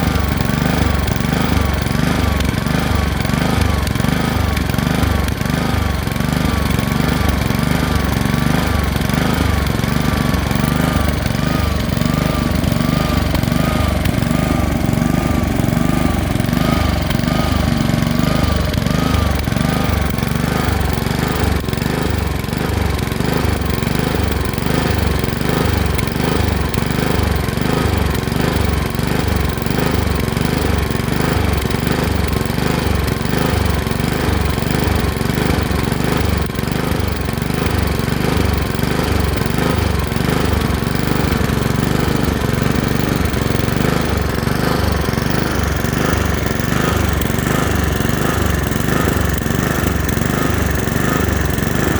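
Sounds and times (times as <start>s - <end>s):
lawn mower engine surging: 0.0s - 51.9s.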